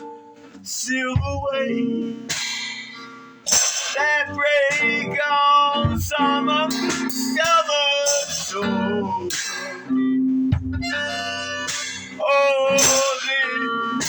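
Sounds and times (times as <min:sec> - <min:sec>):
acoustic guitar: 0:00.0 - 0:14.0
person singing: 0:00.7 - 0:10.1, 0:10.9 - 0:14.0.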